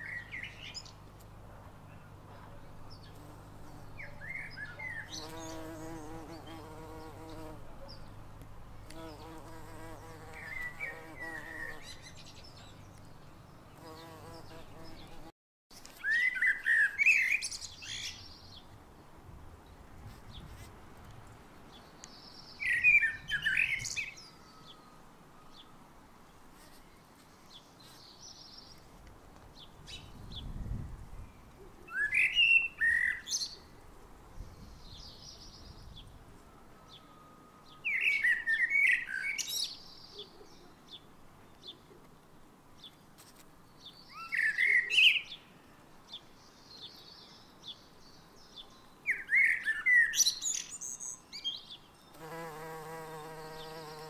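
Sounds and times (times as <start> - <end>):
fainter higher bird song: 0.0 - 1.0, 1.8 - 8.2, 8.9 - 15.3, 15.9 - 18.7, 21.6 - 28.8, 29.6 - 43.1, 43.7 - 54.0.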